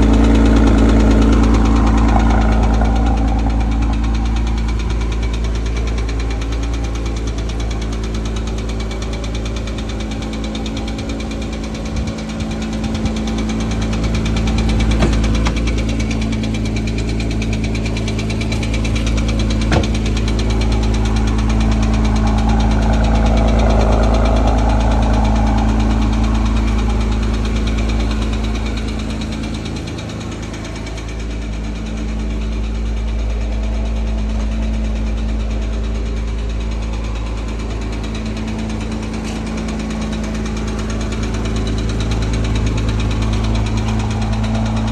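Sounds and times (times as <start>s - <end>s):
car engine idling with ticking: 0.0s - 44.9s.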